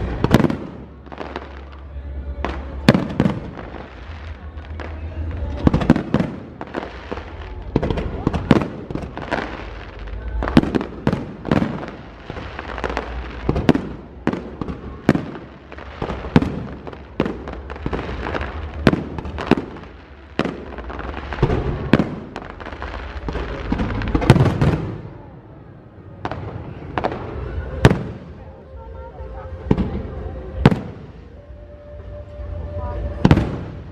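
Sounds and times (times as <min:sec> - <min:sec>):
fireworks bursts and bangs: 0:00.0 - 0:25.4, 0:26.1 - 0:28.6, 0:29.5 - 0:31.4, 0:33.0 - 0:33.9.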